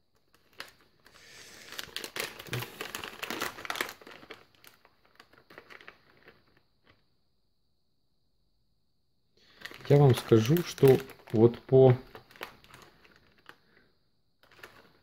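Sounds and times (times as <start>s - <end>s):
plastic packet crinkling: 0.0s - 7.0s, 9.4s - 13.8s, 14.4s - 15.0s.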